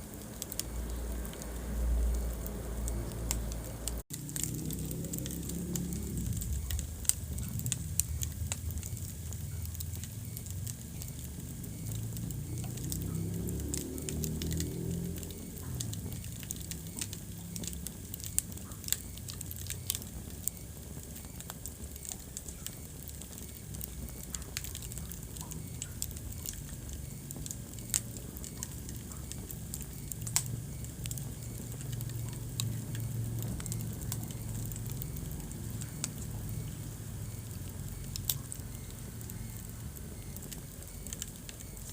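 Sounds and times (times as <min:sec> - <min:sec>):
low rumble of flame: 0:00.0 - 0:41.9
wood fire crackling and popping: 0:00.0 - 0:41.9.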